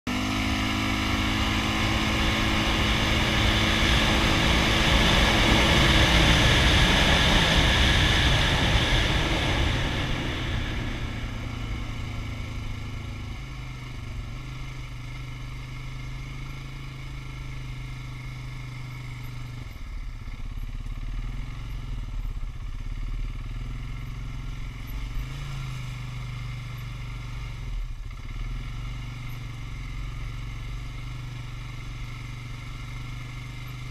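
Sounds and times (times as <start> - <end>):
quad bike engine running: 0.1 - 33.9.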